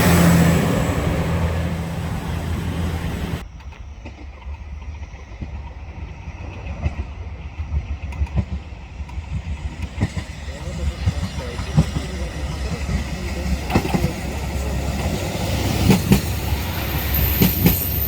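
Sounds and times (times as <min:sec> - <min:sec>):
diesel railcar engine drone: 0:00.0 - 0:18.0
train rolling rumble: 0:00.0 - 0:18.0
wheels clicking on track: 0:00.0 - 0:18.0.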